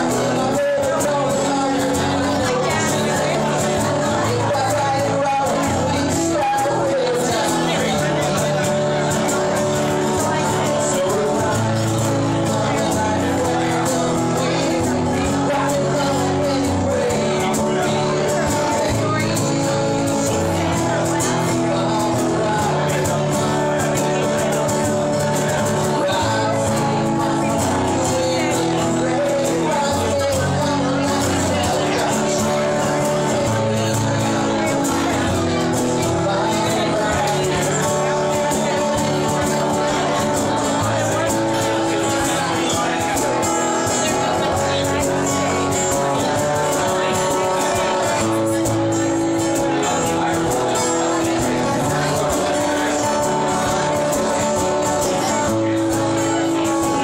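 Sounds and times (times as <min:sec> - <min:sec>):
acoustic guitars strummed: 0:00.0 - 0:57.0.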